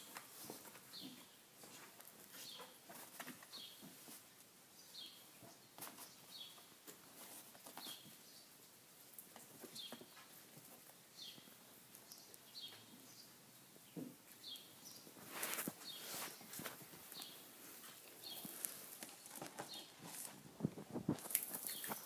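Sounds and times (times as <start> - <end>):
puppies scuffling and paw clicks: 0.0 - 4.5, 5.3 - 8.2, 9.0 - 12.9, 13.9 - 22.0.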